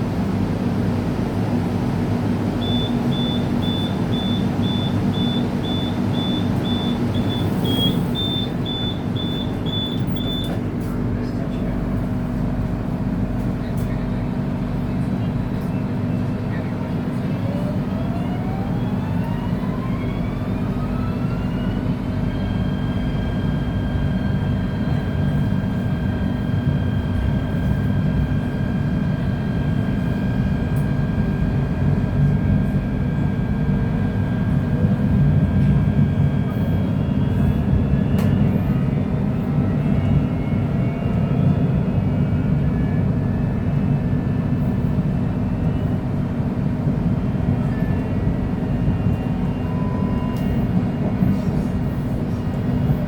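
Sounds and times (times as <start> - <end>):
low rumble of running train: 0.0 - 53.0.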